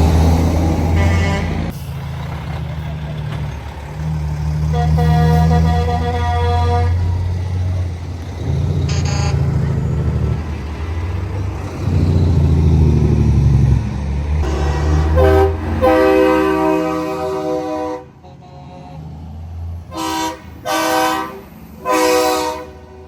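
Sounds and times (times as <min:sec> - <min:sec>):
truck horns: 0:00.0 - 0:01.8, 0:02.4 - 0:13.1, 0:14.4 - 0:23.0
deep engine rumble: 0:00.0 - 0:23.0.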